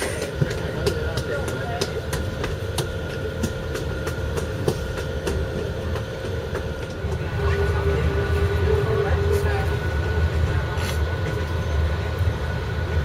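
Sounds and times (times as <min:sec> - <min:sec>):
steady whine: 0:00.0 - 0:13.0
train rumbling on rails: 0:00.0 - 0:13.0.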